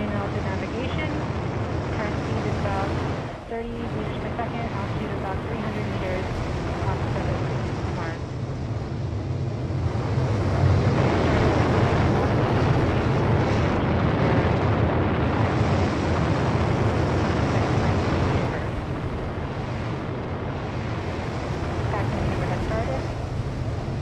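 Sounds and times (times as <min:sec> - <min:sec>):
loud rumbling rush: 0:00.0 - 0:24.0.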